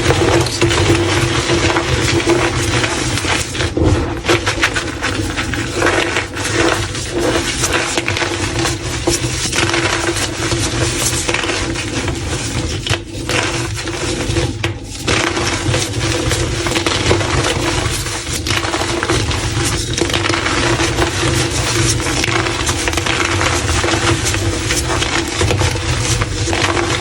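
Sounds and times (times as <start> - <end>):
chalk crunching and crumbling: 0.0 - 27.0.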